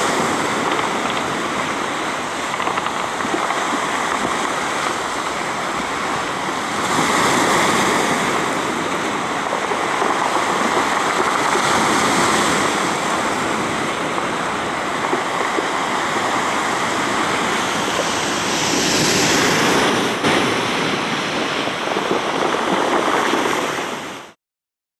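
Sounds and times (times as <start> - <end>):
surf washing over pebbles: 0.0 - 24.4.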